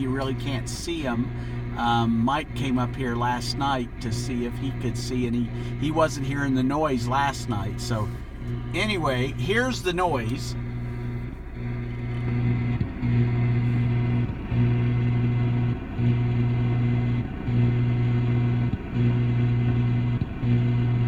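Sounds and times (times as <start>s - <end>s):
radio interference buzz: 0.0s - 21.0s.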